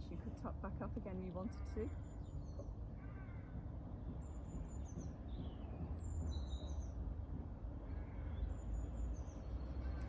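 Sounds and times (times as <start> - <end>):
songbirds singing: 0.9 - 7.1, 7.8 - 10.0.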